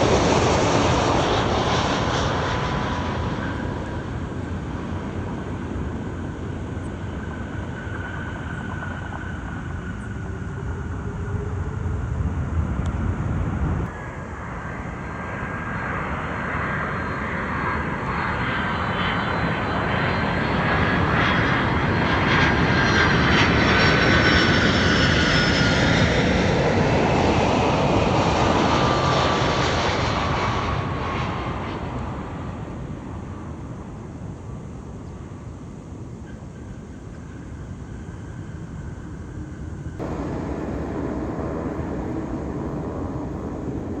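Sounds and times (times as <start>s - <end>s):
jet engines roaring: 0.0s - 36.0s, 36.8s - 44.0s.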